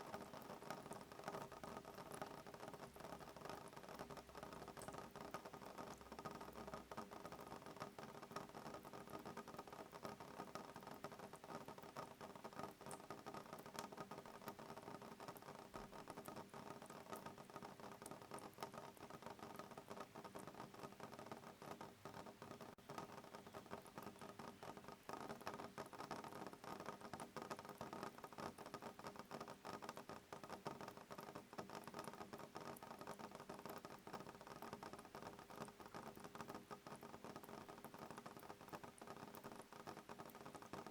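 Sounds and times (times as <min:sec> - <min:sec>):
light rain on a window: 0:00.0 - 0:40.9.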